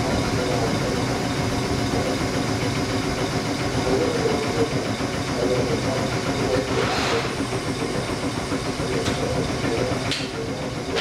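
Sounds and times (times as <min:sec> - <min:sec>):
electric train equipment hum: 0:00.0 - 0:11.0.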